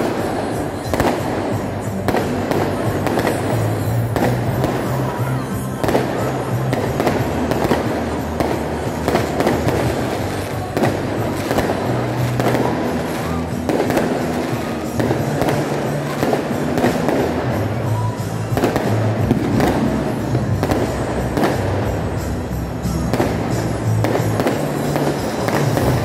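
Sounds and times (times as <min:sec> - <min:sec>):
fireworks bursting: 0:00.0 - 0:26.0
loud music with low bass: 0:00.0 - 0:26.0.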